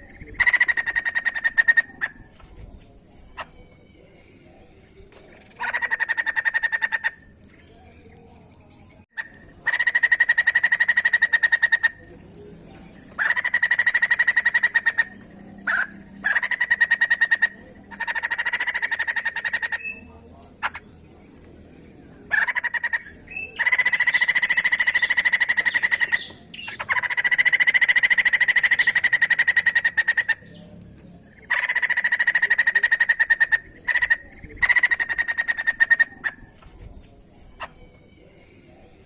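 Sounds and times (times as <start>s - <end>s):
bird trilled chatter: 0.0s - 39.0s.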